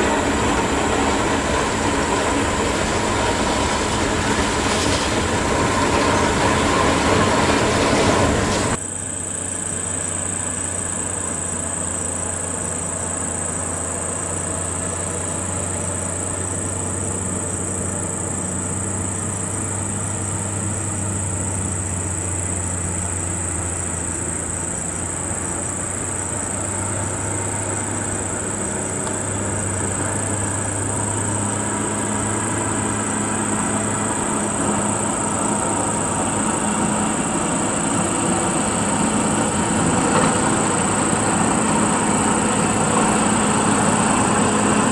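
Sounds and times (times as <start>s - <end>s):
high whine: 0.0s - 44.9s
truck diesel engine drone: 0.0s - 44.9s.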